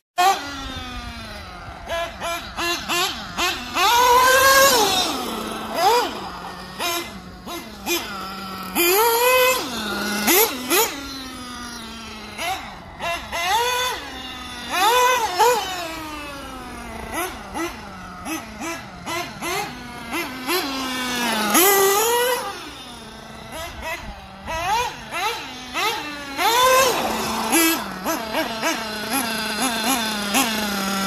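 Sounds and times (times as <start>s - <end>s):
nitro buggy engine revving: 0.2s - 31.0s.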